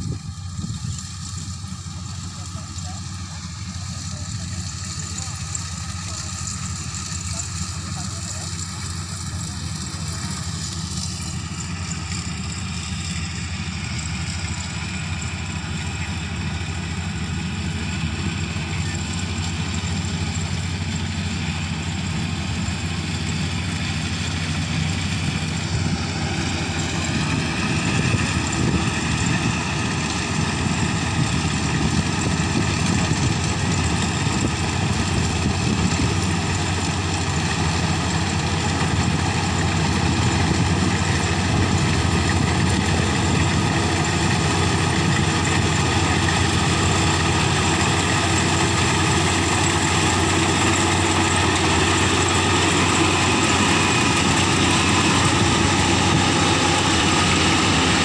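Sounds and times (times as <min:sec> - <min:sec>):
harvester diesel engine running: 0:00.0 - 0:58.0.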